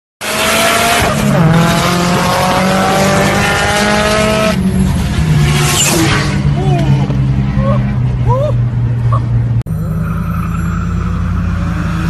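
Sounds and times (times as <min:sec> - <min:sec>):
car engine accelerating: 0:00.2 - 0:12.0
road and wind noise: 0:00.2 - 0:12.0.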